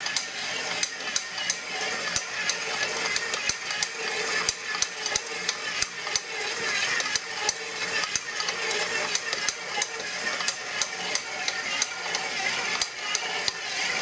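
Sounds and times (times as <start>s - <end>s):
stand mixer motor running: 0.0s - 14.0s.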